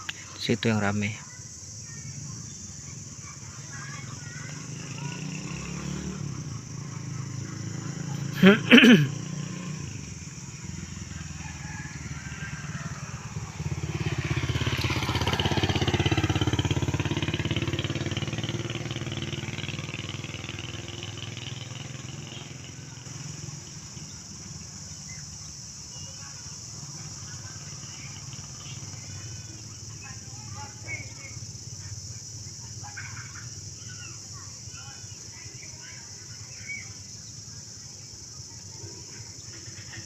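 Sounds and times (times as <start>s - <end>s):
motorcycle passing by: 0.0s - 40.0s.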